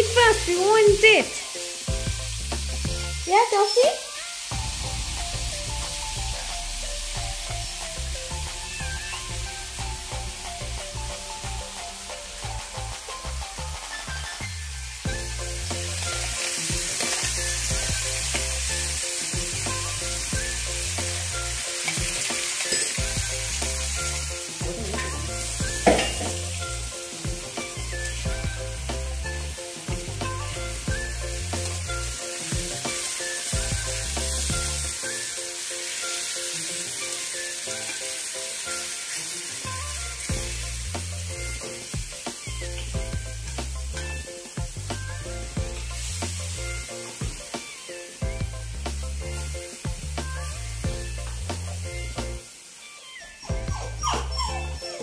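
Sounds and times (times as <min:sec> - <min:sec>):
paste sizzling in oil: 0:00.0 - 0:55.0
background music with bass: 0:01.8 - 0:03.3, 0:04.5 - 0:35.2, 0:39.7 - 0:47.6, 0:48.2 - 0:52.5, 0:53.4 - 0:55.0.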